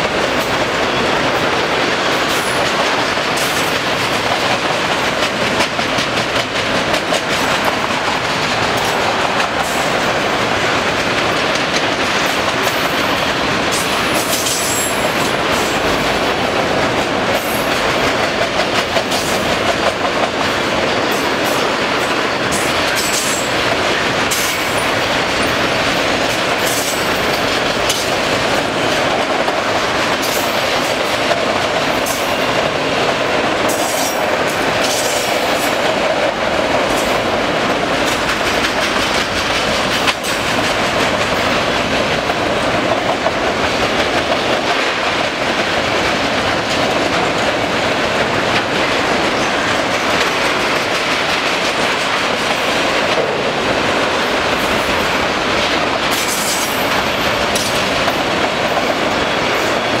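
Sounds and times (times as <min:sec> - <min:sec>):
freight cars rumbling and rattling: 0:00.0 - 1:00.0.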